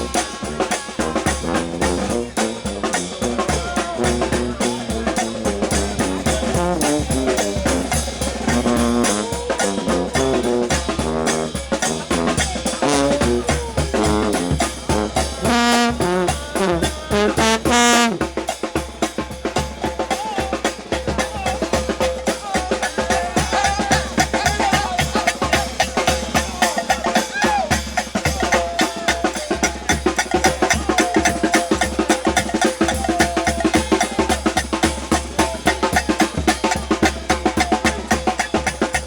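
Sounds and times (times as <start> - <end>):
bass drum and snare beat: 0.0 - 39.0
brass band playing: 0.0 - 39.0.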